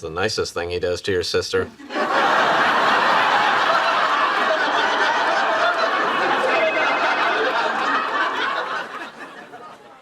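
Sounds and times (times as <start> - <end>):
audience laughing: 1.8 - 10.0.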